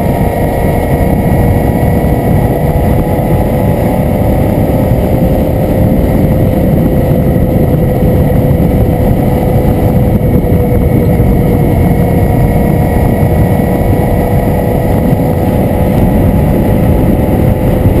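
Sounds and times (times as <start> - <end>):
motorcycle engine droning: 0.0 - 18.0
wind buffeting microphone: 0.0 - 18.0.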